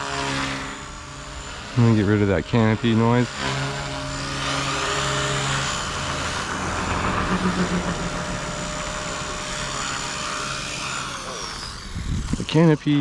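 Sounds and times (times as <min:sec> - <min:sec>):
canopy vibrating buzz: 0:00.0 - 0:13.0
helicopter rotor hum: 0:00.0 - 0:13.0
high motor whine: 0:00.0 - 0:13.0.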